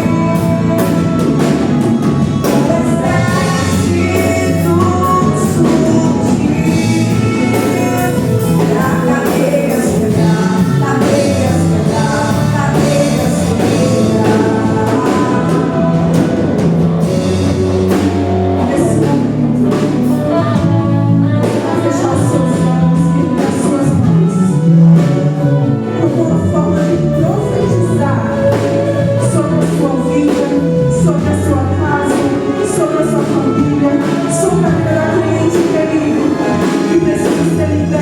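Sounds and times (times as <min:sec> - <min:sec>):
bass notes: 0:00.0 - 0:38.0
gospel singing over a band: 0:00.0 - 0:38.0.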